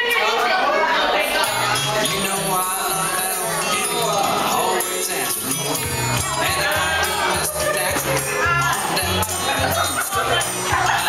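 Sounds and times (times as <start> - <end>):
music with jingling percussion: 1.4 - 11.0
bass line: 1.5 - 11.0.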